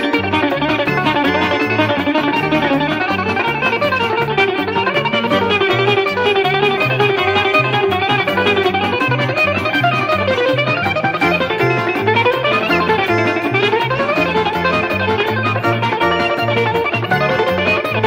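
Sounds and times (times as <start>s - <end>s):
plucked bouzouki melody: 0.0s - 18.0s
pulsing bass line: 0.0s - 18.0s.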